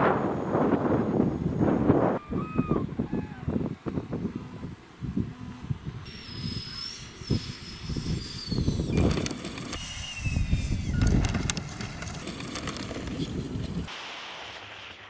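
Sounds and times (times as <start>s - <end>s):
ducted fan whining: 0.0s - 13.9s.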